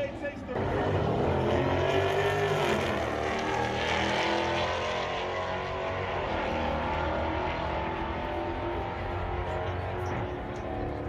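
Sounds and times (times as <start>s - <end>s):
drag racing car engines running: 0.0s - 11.0s.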